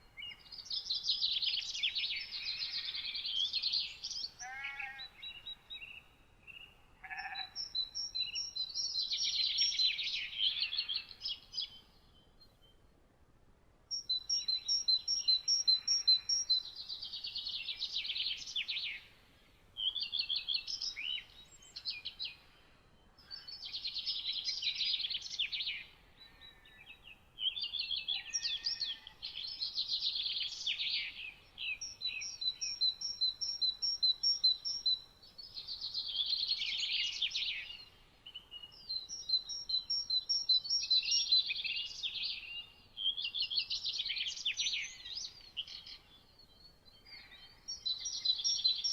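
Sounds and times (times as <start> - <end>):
songbird singing: 0.0 - 13.2, 13.9 - 48.9.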